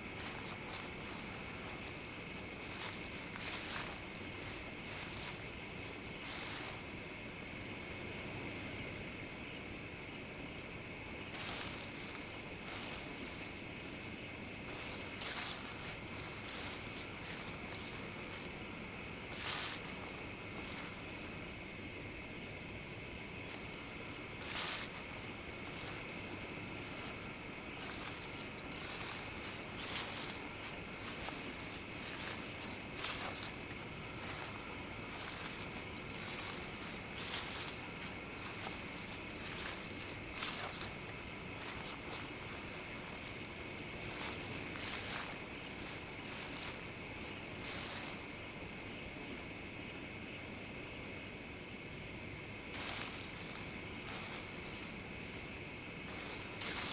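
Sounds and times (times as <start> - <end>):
footsteps in dry leaves: 0.0 - 7.9, 11.0 - 22.4, 23.0 - 48.9, 52.6 - 56.9
night insects chorus: 0.0 - 56.9.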